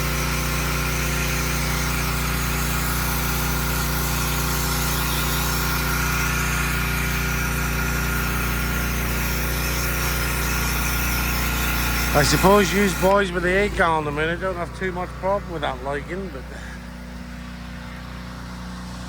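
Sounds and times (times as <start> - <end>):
pump whining and droning: 0.0 - 19.0.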